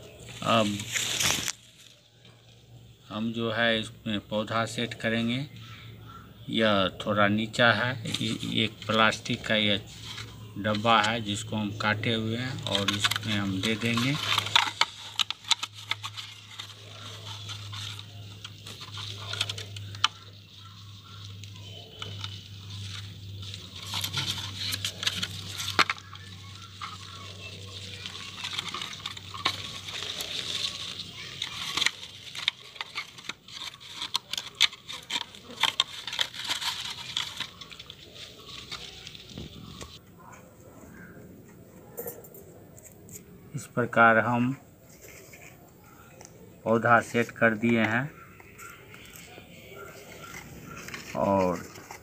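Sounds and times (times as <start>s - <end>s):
dry soil crackling and rustling: 0.0s - 5.8s, 6.5s - 40.0s, 43.5s - 52.0s.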